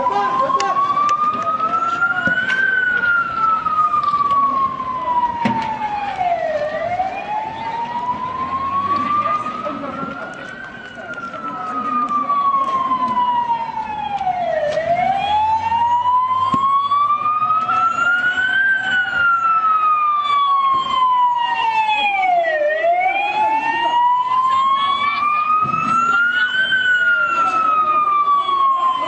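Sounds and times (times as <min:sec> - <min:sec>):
background noise: 0:00.0 - 0:29.0
emergency siren wailing: 0:00.0 - 0:29.0.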